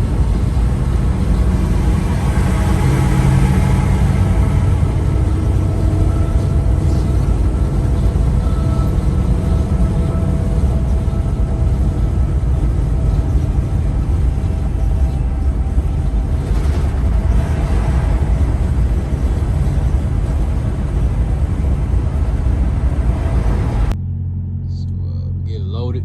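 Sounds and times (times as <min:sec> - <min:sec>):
truck diesel engine rumbling: 0:00.0 - 0:26.0.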